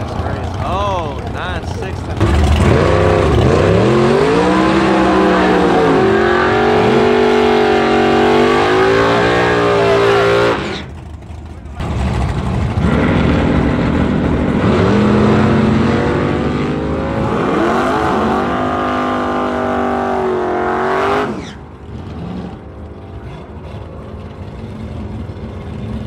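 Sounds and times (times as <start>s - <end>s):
drag racing car engine at full throttle: 0.0s - 26.0s.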